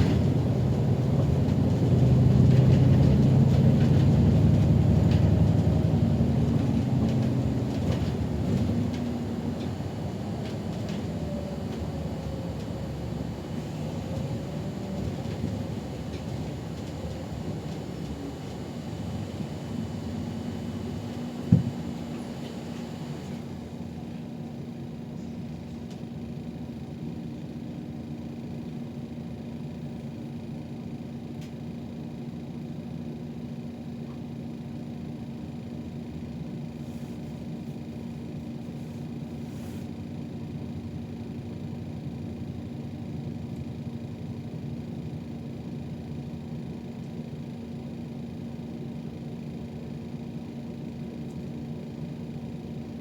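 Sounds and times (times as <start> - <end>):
bus engine rumble: 0.0 - 27.7, 28.6 - 53.0
constant low hum: 0.0 - 53.0.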